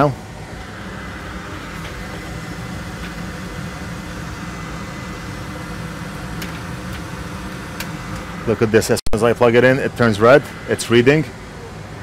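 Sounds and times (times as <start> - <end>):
fans and ventilation hum: 0.0 - 12.0.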